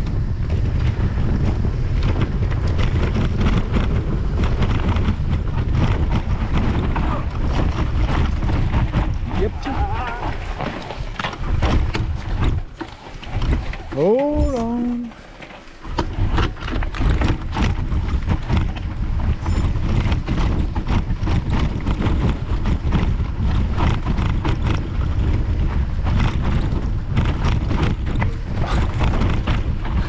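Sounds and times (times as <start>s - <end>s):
bike rattling over rough ground: 0.0s - 30.0s
low rumble: 0.0s - 30.0s.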